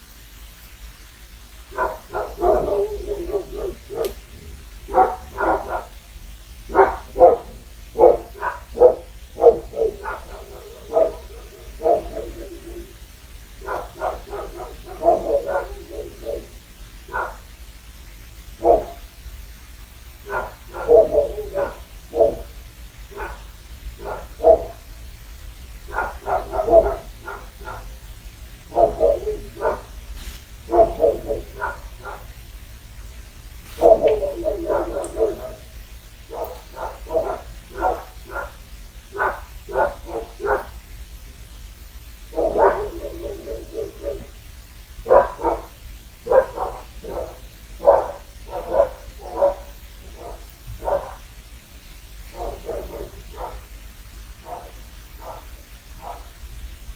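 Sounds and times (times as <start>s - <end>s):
dogs barking: 1.4s - 56.7s.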